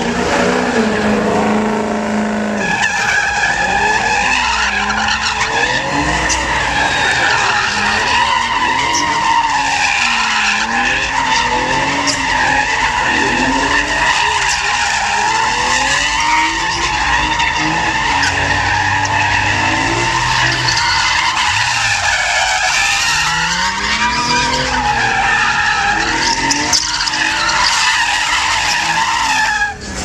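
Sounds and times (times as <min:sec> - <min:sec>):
engine revving: 0:00.0 - 0:29.0
tires squealing on pavement: 0:00.0 - 0:30.0.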